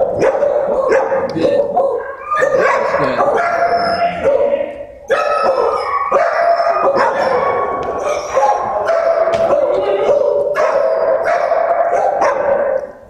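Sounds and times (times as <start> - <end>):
dogs barking: 0.0 - 13.0
dogs howling: 0.0 - 13.0.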